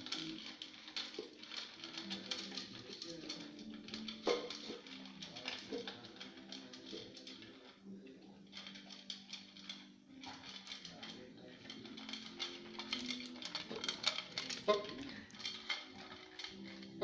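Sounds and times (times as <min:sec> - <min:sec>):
dog crunching dry kibble: 0:00.0 - 0:17.0.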